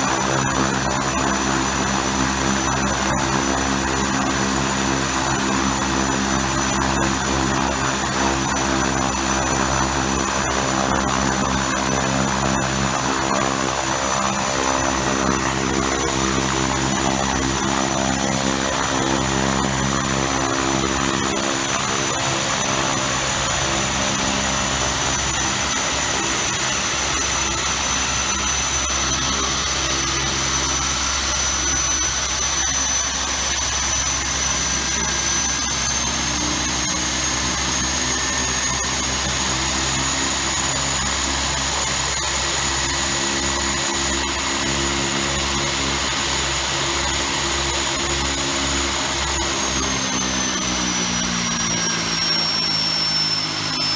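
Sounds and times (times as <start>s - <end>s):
high turbine whine: 0.0s - 53.9s
low propeller drone: 0.0s - 53.9s.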